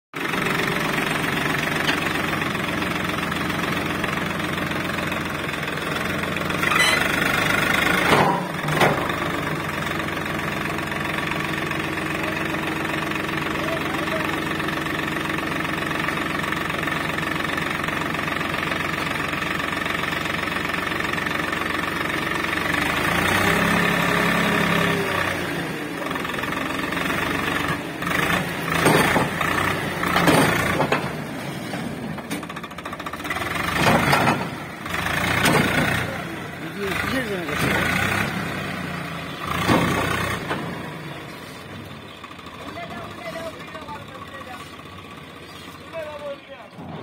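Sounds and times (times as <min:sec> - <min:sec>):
tractor diesel engine running: 0:00.1 - 0:47.0.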